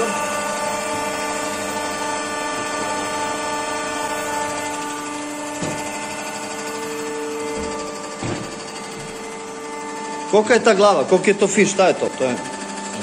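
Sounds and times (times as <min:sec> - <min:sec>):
resurfacing machine motor whine: 0:00.0 - 0:13.0.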